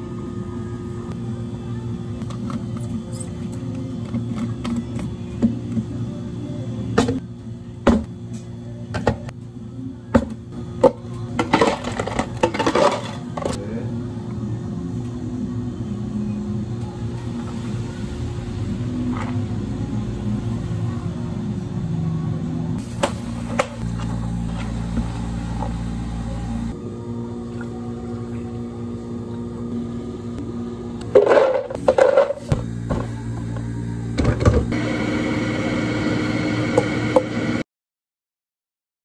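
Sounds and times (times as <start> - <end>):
electric machine humming: 0.0 - 37.6.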